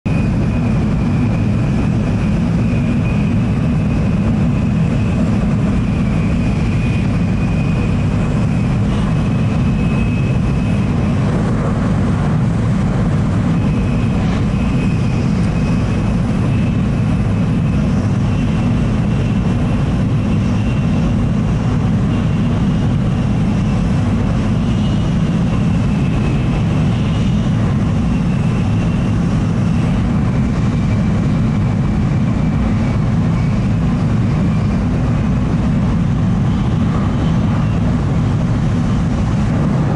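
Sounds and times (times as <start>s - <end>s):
train deep rumble: 0.0s - 39.9s
faint high whine: 0.1s - 39.9s.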